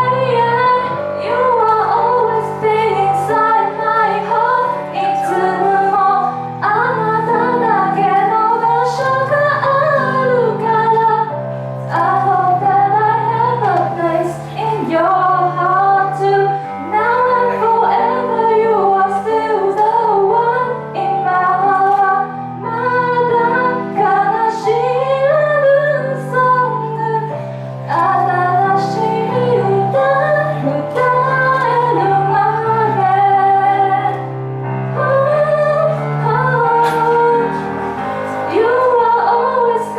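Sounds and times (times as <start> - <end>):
woman singing: 0.0 - 34.3, 34.9 - 39.9
instrumental backing chords: 0.0 - 39.9.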